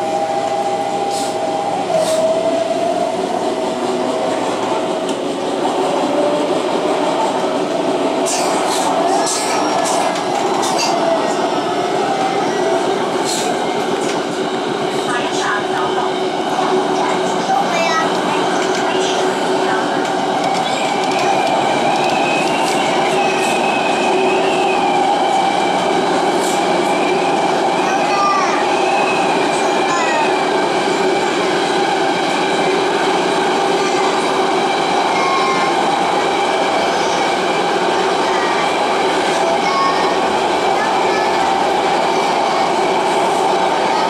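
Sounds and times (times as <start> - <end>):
train rumbling at speed: 0.0 - 44.0.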